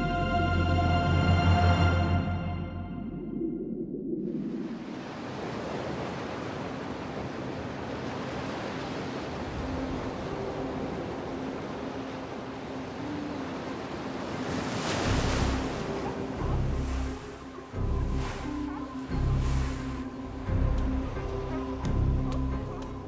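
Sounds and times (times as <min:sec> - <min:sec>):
waves breaking on a sandy beach: 0:04.5 - 0:23.0.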